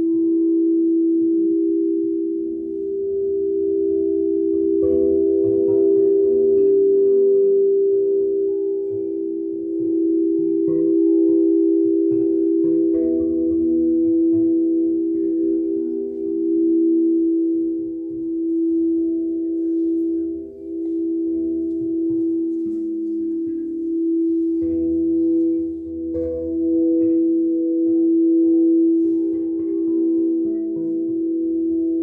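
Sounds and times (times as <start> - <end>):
crystal singing bowls ringing: 0.0 - 32.0.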